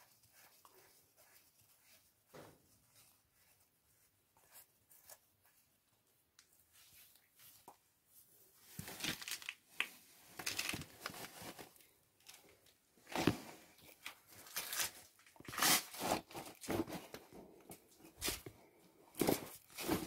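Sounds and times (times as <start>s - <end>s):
rustling and crinkling: 0.0s - 20.0s.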